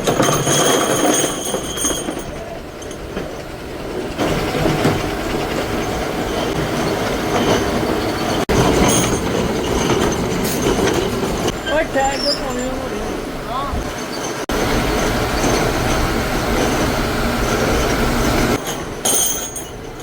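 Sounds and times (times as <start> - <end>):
metallic squealing and clatter: 0.0 - 20.0
metalworking machinery running: 0.0 - 20.0.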